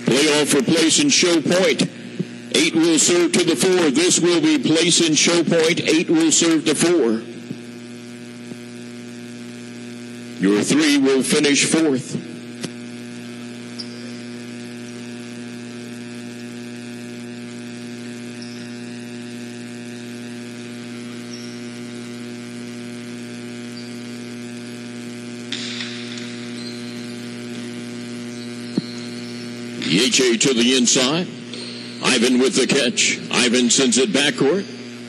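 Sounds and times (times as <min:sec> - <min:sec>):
buzzy electrical hum: 0:00.0 - 0:35.0.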